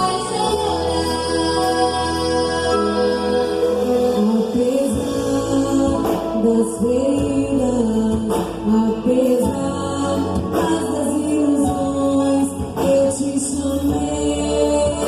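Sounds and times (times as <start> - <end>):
band playing a song: 0.0 - 15.0
person singing: 0.0 - 15.0.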